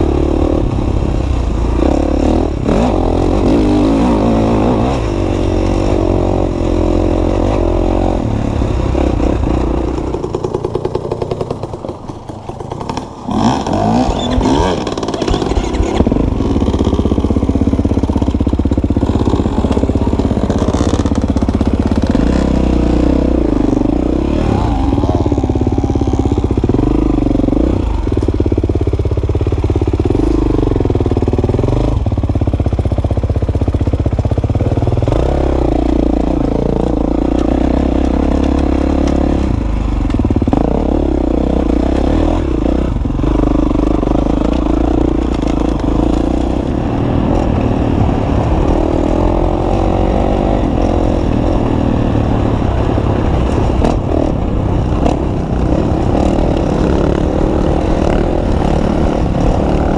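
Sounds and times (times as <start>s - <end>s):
dirt bike engine revving: 0.0s - 32.2s, 34.4s - 59.9s.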